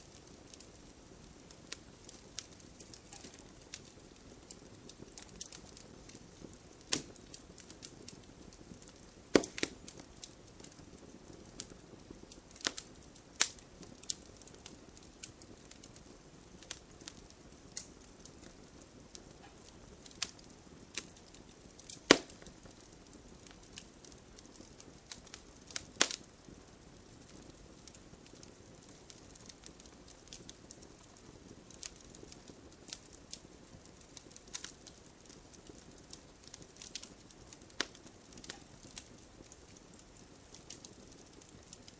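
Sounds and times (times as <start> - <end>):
soft hiss of burning: 0.0 - 41.9
wood fire crackling and popping: 0.0 - 41.9.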